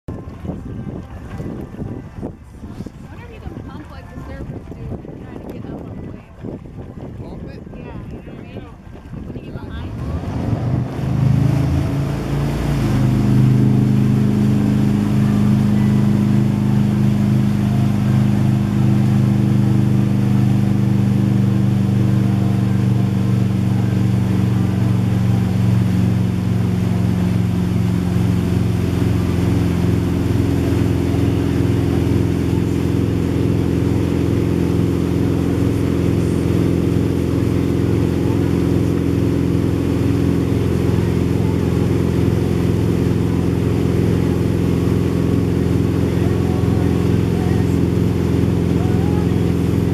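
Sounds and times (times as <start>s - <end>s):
boat engine running under load: 0.1s - 49.9s
water rushing: 8.9s - 49.9s.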